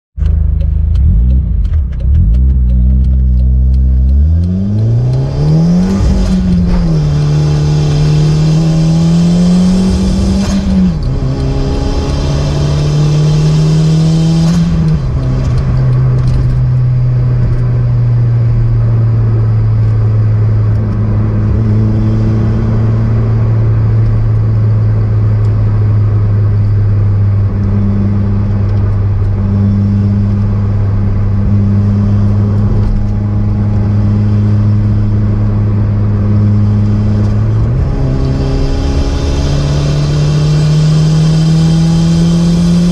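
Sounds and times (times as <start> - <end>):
car engine accelerating: 0.2 - 42.9.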